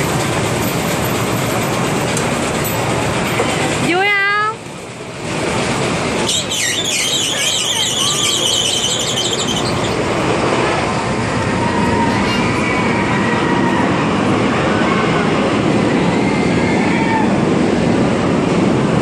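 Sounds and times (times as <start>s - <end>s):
amusement ride rumbling: 0.0s - 19.0s.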